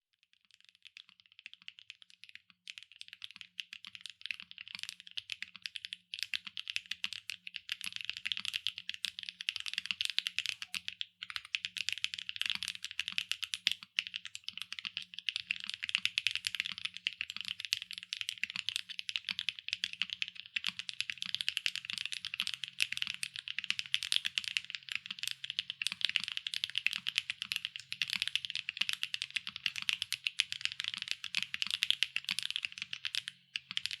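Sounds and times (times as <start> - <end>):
fast mechanical keyboard typing: 0.9 - 34.0.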